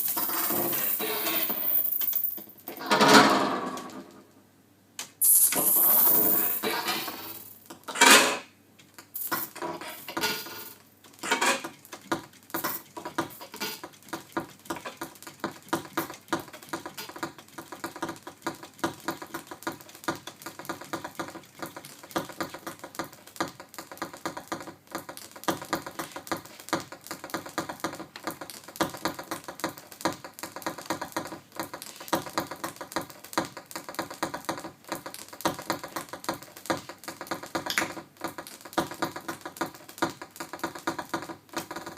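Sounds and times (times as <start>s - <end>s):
tape machine clicks and clatter: 5.0s - 41.9s.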